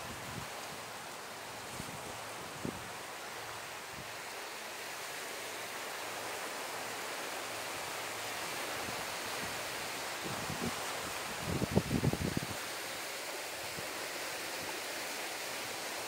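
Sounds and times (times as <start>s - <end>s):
small waves washing on shore: 0.0s - 16.0s.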